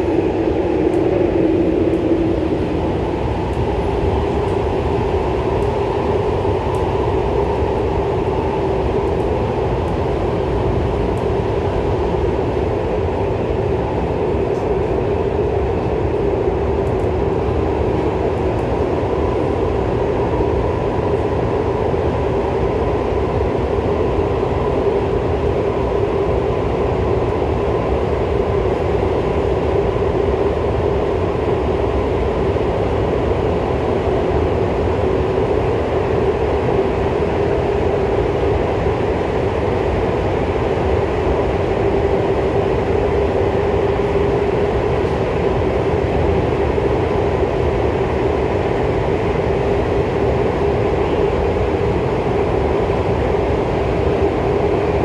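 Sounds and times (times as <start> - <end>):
steady hum: 0.0 - 55.0
train wheels rumbling in tunnel: 0.0 - 55.0.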